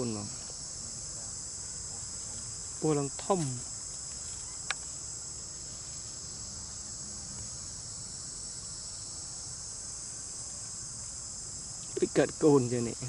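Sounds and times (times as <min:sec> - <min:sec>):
chorus of insects droning: 0:00.0 - 0:13.0.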